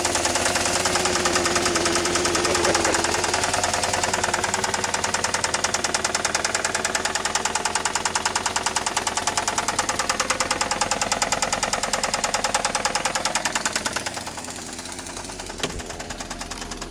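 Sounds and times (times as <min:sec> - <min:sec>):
car engine knocking rhythmically: 0:00.0 - 0:16.9.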